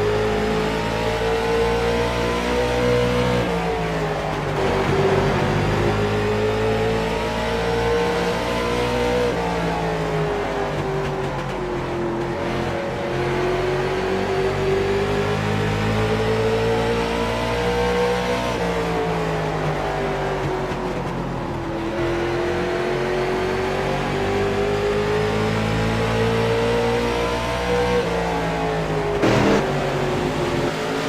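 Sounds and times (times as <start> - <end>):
racing car engines: 0.0 - 31.0.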